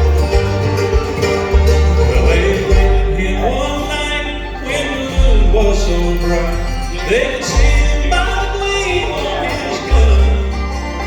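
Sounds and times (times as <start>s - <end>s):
banjo: 0.0s - 11.0s
bass notes: 0.0s - 11.0s
bluegrass band playing: 0.0s - 11.0s
sliding lead line: 0.0s - 11.0s.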